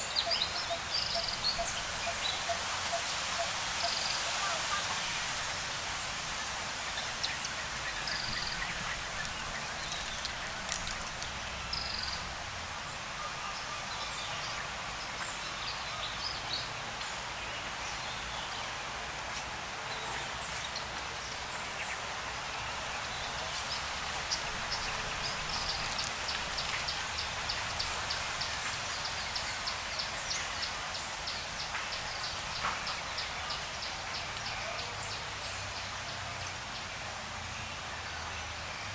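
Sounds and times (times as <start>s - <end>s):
forest hiss: 0.0s - 38.9s.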